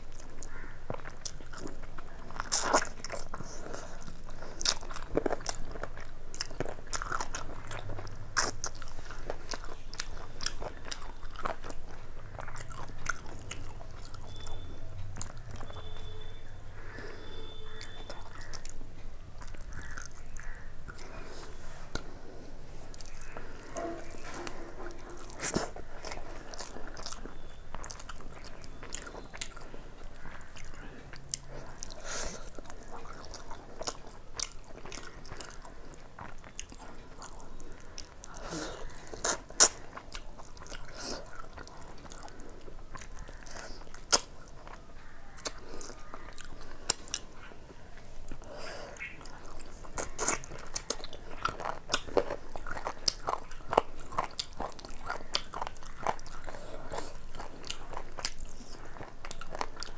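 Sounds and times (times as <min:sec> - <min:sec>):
mouth clicks and crunches: 0:00.0 - 0:16.1, 0:16.8 - 0:22.2, 0:22.8 - 0:59.9
person chewing wetly: 0:00.0 - 0:59.9.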